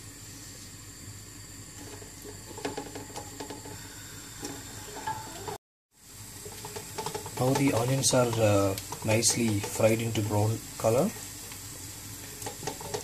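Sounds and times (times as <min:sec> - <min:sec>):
onions sizzling in hot oil: 0:00.0 - 0:13.0
wooden spoon scraping a pot: 0:01.8 - 0:05.6, 0:06.3 - 0:13.0.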